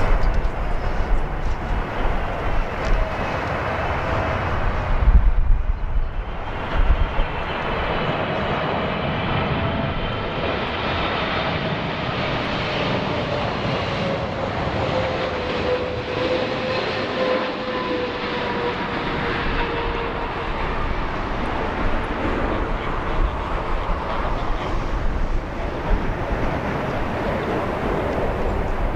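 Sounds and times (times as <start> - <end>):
jet engines roaring overhead: 0.0 - 28.9.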